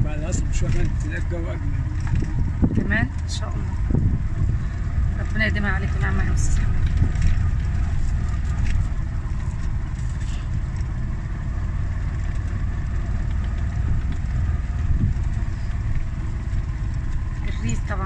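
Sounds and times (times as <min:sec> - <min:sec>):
auto-rickshaw engine running: 0:00.0 - 0:18.0.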